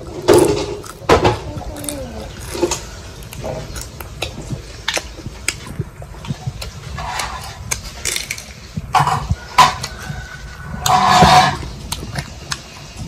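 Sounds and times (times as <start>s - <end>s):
crunchy chewing: 0.3s - 13.0s.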